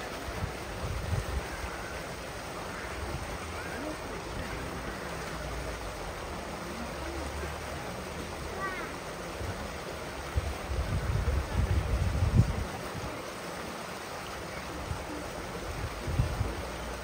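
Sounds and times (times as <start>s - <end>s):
rushing water: 0.0s - 17.0s
faint background voices: 1.2s - 17.0s.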